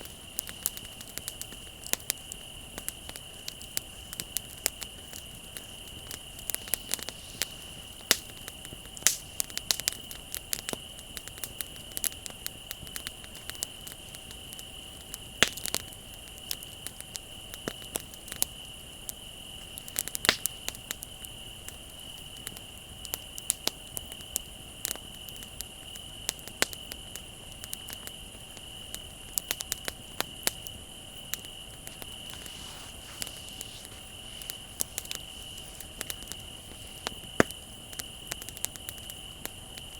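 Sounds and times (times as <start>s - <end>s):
bonfire crackling: 0.0s - 39.9s
crickets trilling: 0.0s - 39.9s.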